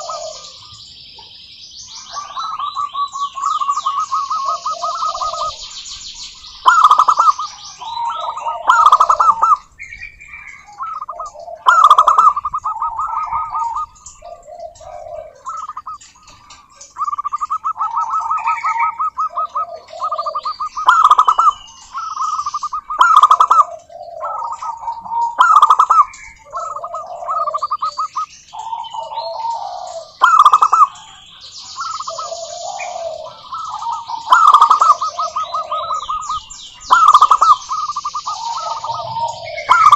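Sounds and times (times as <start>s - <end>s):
doves cooing: 0.0s - 1.3s, 1.9s - 39.9s.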